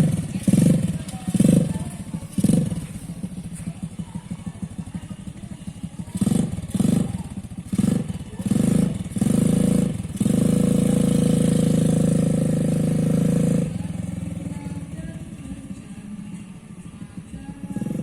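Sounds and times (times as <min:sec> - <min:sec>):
atv engine revving: 0:00.0 - 0:18.0.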